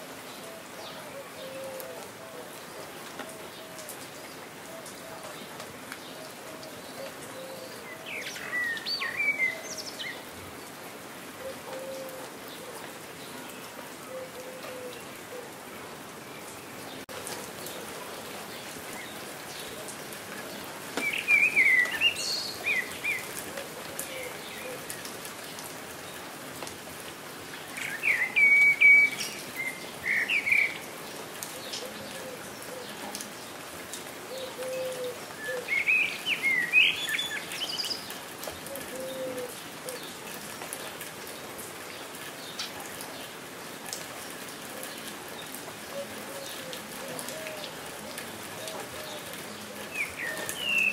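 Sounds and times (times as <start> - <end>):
rain falling: 0.0 - 50.9
songbird chirping: 0.4 - 10.8, 11.4 - 25.7, 27.5 - 33.5, 34.3 - 40.2, 42.0 - 50.9.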